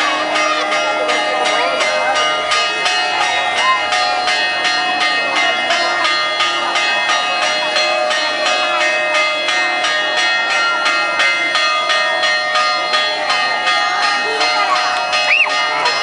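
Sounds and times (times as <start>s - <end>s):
church bells pealing: 0.0s - 16.0s.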